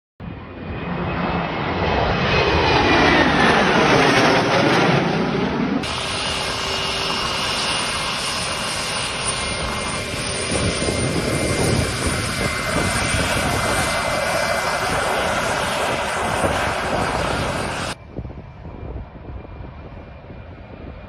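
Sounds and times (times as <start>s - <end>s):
jet engines running: 0.2s - 21.0s.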